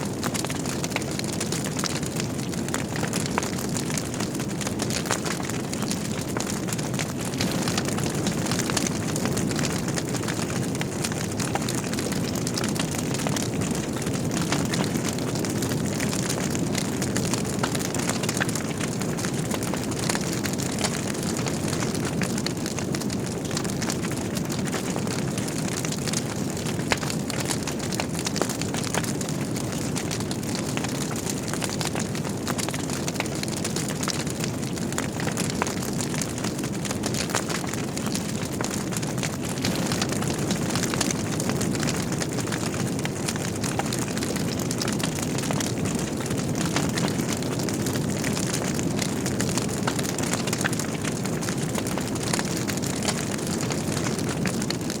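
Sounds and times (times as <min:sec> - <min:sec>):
wood crackling and popping: 0:00.0 - 0:55.0
fire flames rushing: 0:00.2 - 0:54.9.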